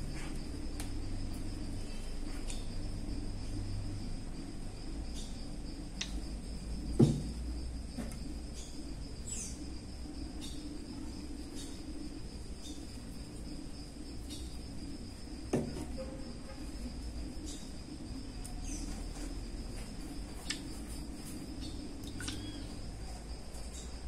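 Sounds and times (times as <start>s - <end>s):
high insect trill: 0.0s - 24.0s
low background hum: 0.0s - 24.0s.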